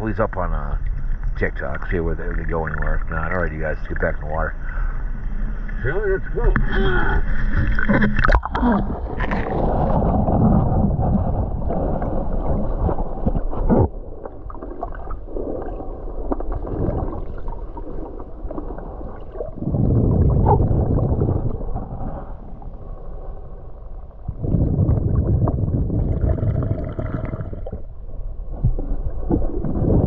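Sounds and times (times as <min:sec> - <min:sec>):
underwater gurgling and sloshing: 0:00.0 - 0:30.0.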